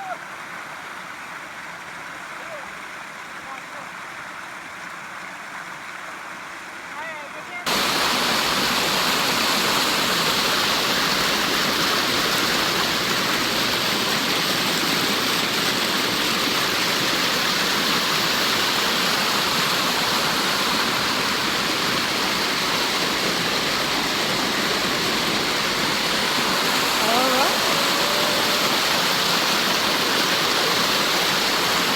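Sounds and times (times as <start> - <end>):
river water rushing over rocks: 0.0 - 31.9.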